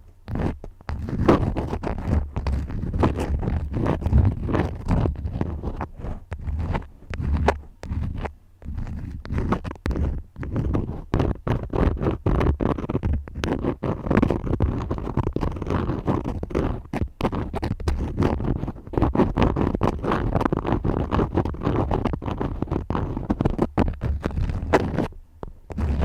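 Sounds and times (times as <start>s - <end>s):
crayons scratching paper: 0.3s - 25.1s, 25.7s - 26.0s.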